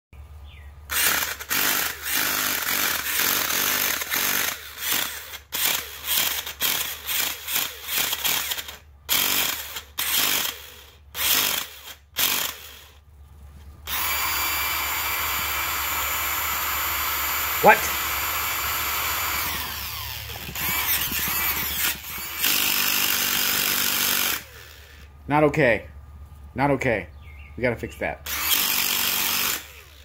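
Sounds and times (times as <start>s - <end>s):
tire inflator compressor stuttering: 0.9s - 13.0s, 13.8s - 25.2s, 28.2s - 30.0s.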